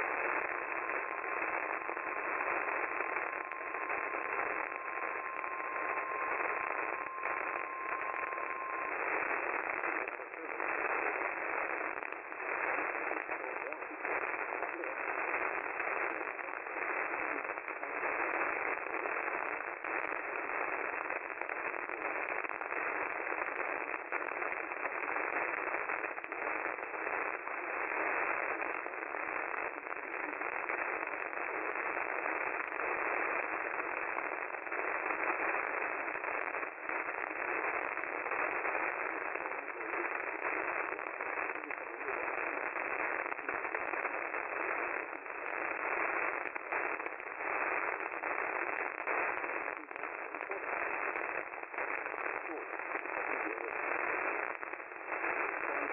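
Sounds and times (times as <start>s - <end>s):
radio static hiss: 0.0s - 55.9s
static crackles: 0.0s - 55.9s.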